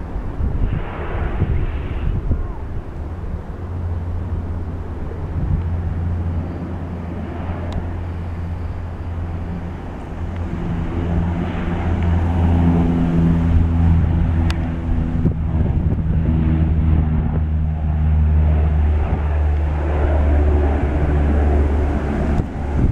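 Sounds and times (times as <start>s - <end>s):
turboprop engines droning: 0.0s - 22.9s.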